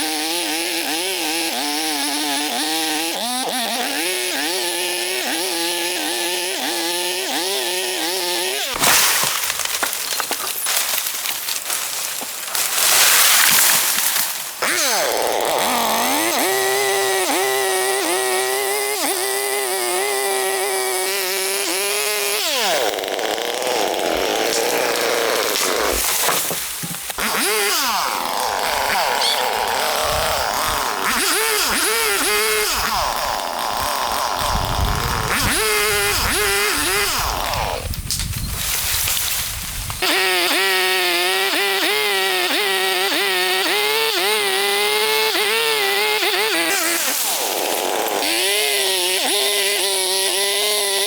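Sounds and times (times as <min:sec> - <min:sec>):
chainsaw engine revving: 0:00.0 - 0:11.7, 0:12.6 - 0:51.0.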